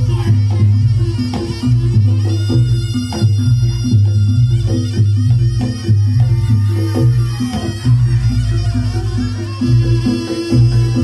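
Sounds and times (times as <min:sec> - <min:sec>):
gamelan pitched notes: 0:00.0 - 0:11.0
hand drums: 0:00.0 - 0:11.0.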